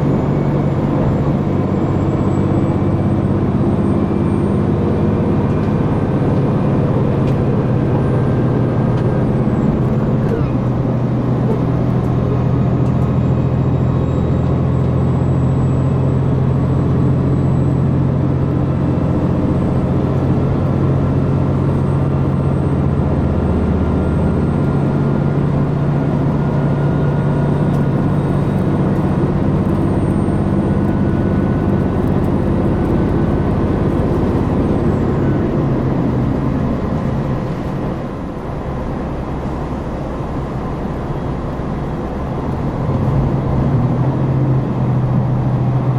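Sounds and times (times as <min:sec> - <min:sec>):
diesel railcar engine droning: 0:00.0 - 0:45.9.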